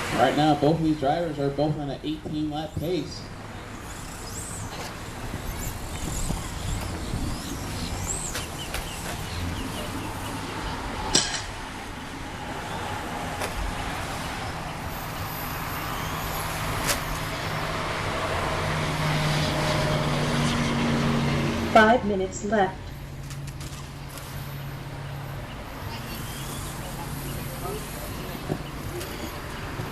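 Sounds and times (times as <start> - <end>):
electric rc trucks whining: 2.5 - 21.8, 23.0 - 29.9.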